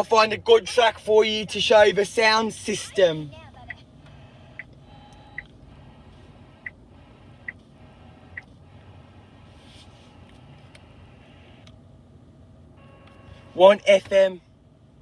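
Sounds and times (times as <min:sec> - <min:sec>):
faint low cabin hum: 0:00.0 - 0:15.0.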